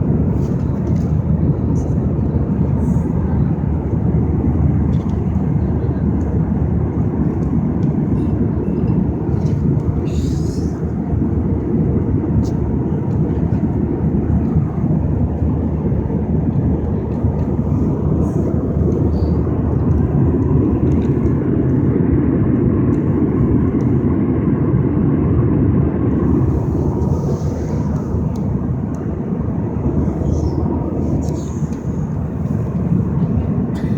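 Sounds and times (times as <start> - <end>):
jet engines roaring in cabin: 0.0 - 33.9.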